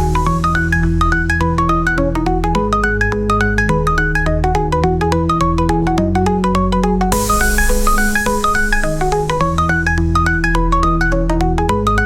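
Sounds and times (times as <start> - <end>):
fast electronic arpeggio: 0.0 - 12.0
held bass notes: 0.0 - 12.0.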